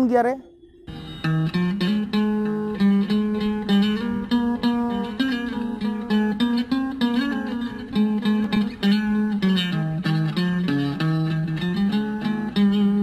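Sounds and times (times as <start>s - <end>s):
acoustic guitar plucking: 0.0s - 13.0s.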